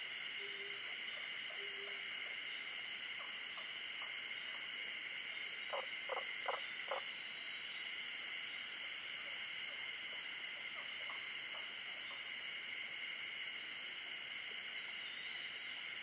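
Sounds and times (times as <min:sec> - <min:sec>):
frog croaking: 0:00.0 - 0:07.3, 0:09.2 - 0:16.0
high-pitched natural chorus: 0:00.0 - 0:16.0.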